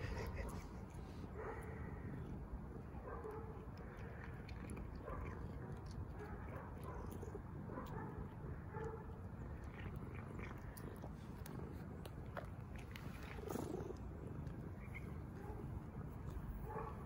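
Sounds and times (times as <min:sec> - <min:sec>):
cat crunching dry kibble: 0:00.0 - 0:17.0
steady low rumble: 0:00.0 - 0:17.0.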